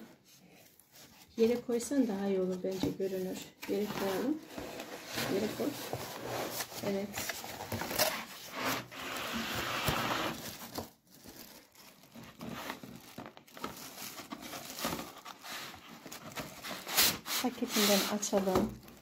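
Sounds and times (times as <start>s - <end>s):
plastic wrapping crinkling: 0.3s - 19.0s
cardboard packaging opening: 2.5s - 19.0s.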